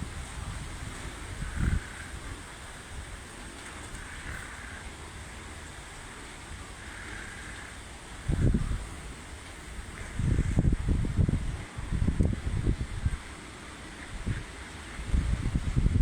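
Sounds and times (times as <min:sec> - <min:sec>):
wind buffeting microphone: 0:00.0 - 0:06.8, 0:07.8 - 0:16.0.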